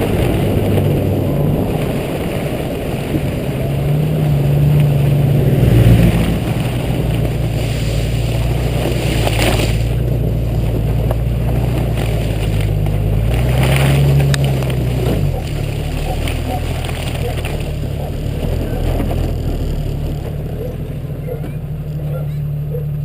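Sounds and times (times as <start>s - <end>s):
wind noise: 0.0s - 19.6s
car engine running: 0.0s - 23.0s
tyre noise: 0.0s - 23.0s.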